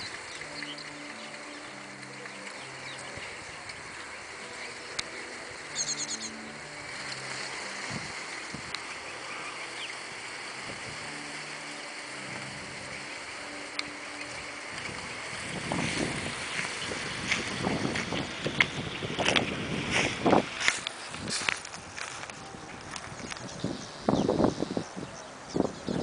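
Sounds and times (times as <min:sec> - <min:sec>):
low hum: 0:00.0 - 0:24.9
high chirps: 0:00.0 - 0:26.0
wind on microphone: 0:00.0 - 0:26.0.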